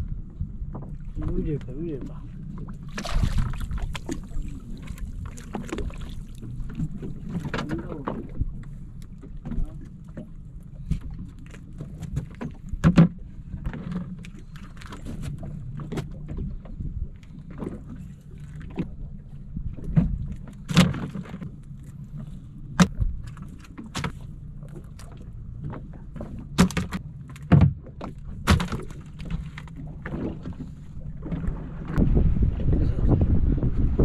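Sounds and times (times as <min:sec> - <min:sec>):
knocks and thumps on boat: 0:00.0 - 0:34.0
low rumble of boat on water: 0:00.0 - 0:34.0.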